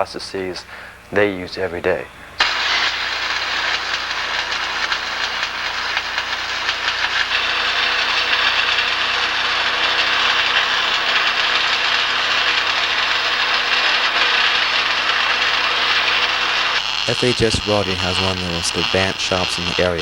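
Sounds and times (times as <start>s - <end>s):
constant electrical hum: 0.0s - 20.0s
welding arc crackling sizzle: 2.4s - 20.0s.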